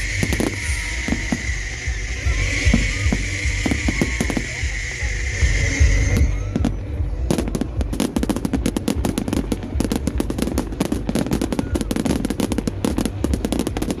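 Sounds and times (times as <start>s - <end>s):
fireworks cracks and bangs: 0.0s - 14.0s
low rumble: 0.0s - 14.0s.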